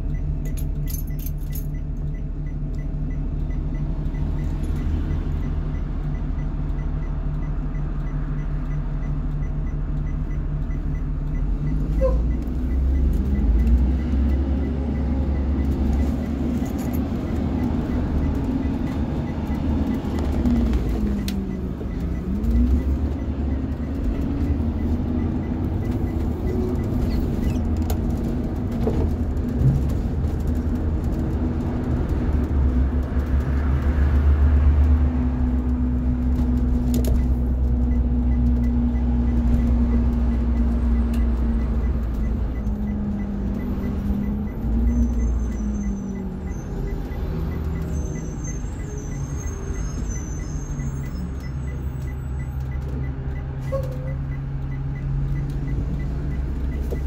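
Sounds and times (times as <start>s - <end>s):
bus engine rumbling: 0.0s - 57.0s
road noise: 0.0s - 57.0s.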